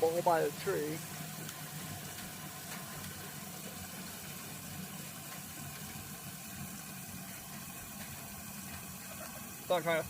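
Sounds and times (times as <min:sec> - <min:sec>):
water hissing: 0:00.0 - 0:10.0.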